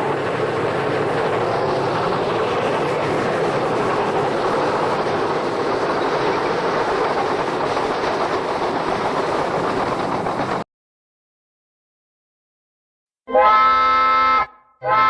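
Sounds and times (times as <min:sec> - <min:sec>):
train running on rails: 0:00.0 - 0:10.6, 0:13.3 - 0:15.0.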